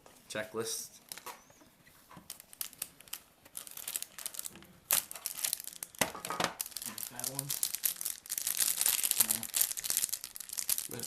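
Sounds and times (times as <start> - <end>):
wrapper crinkling: 1.0 - 1.4, 2.1 - 11.0.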